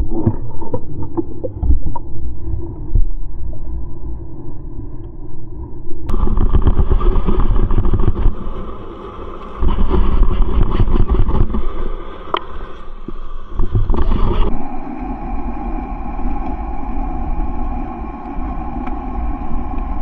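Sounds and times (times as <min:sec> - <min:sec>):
underwater rumbling crackling water: 0:00.0 - 0:20.0.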